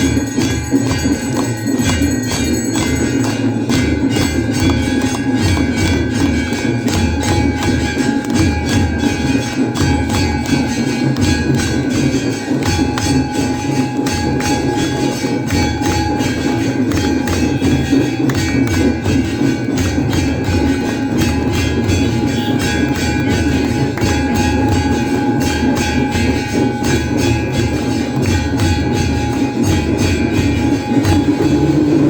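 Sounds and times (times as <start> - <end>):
bells ringing: 0.0 - 32.0
fast drumbeats: 0.0 - 32.0.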